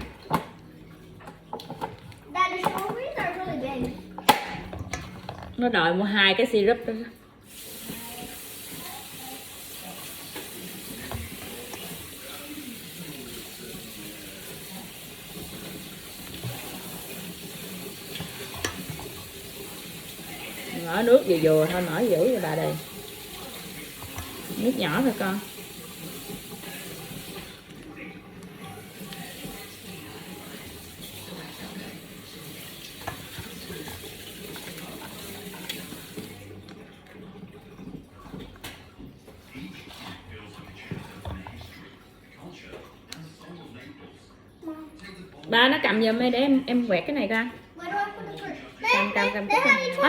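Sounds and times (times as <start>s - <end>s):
tap water running into sink: 0.0s - 5.7s, 7.4s - 43.6s, 48.4s - 50.0s.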